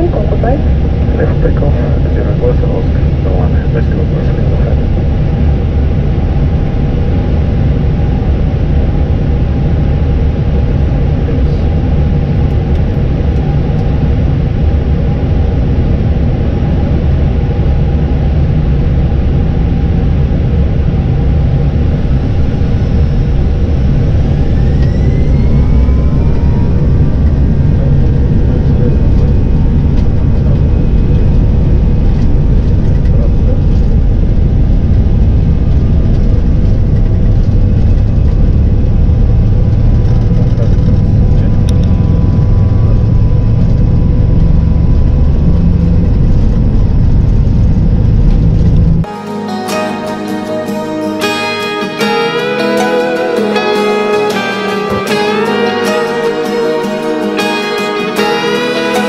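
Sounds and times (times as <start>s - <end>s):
jet engines rumbling: 0.0s - 49.1s, 49.7s - 59.0s
jet engine whine: 0.0s - 59.0s.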